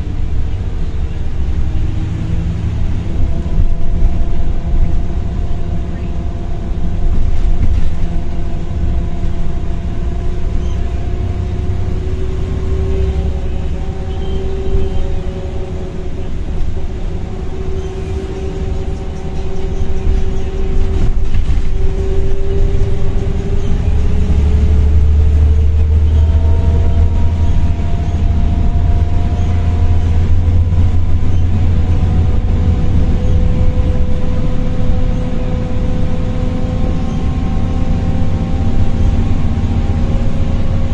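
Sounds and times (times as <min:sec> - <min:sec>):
deep diesel engine drone: 0:00.0 - 0:40.9
bus gearbox whine: 0:03.0 - 0:40.9.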